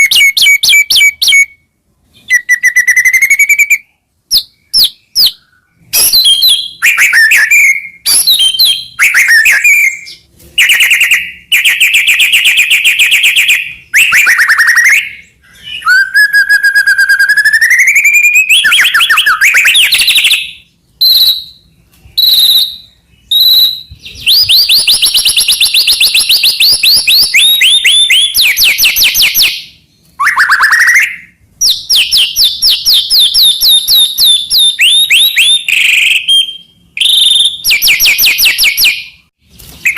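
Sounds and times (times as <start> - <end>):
songbird singing varied song: 0.0 - 39.3.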